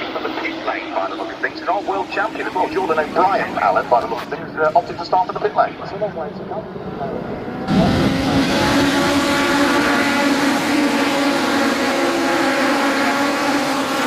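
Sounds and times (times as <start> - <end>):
racing car engines passing at speed: 0.0 - 14.0.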